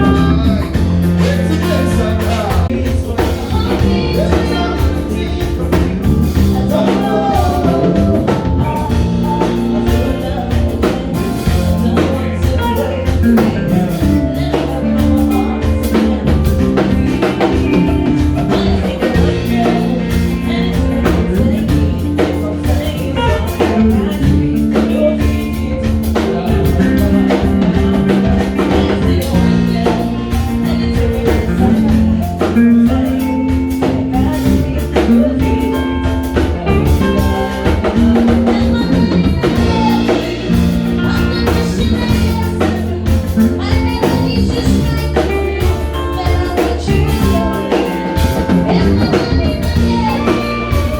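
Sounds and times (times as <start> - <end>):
bass: 0.0 - 50.9
drum kit: 0.0 - 50.9
guitar: 0.0 - 50.9.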